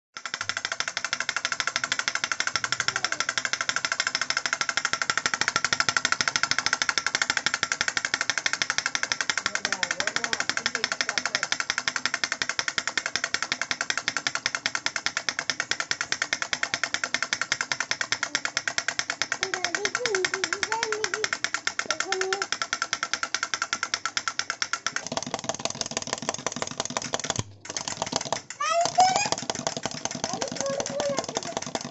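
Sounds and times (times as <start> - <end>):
toy drum clicky taps: 0.2 - 31.9.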